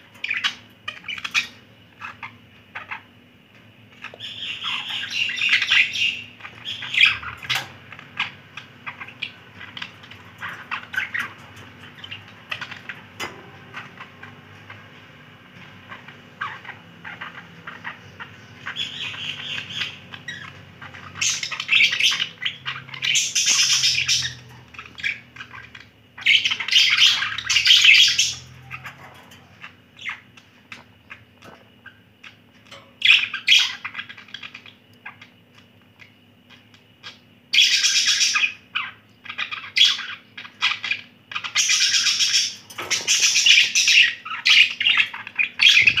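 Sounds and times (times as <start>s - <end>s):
budgerigars chirping: 0.1s - 3.1s, 3.9s - 46.0s.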